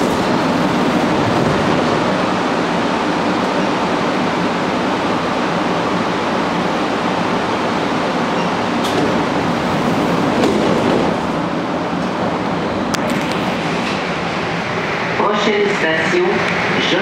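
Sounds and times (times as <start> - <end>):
metro car rushing noise: 0.0 - 17.0.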